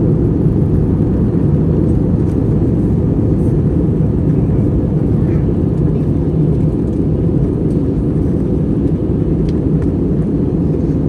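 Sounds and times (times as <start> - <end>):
airplane cabin engine roar: 0.0 - 11.0.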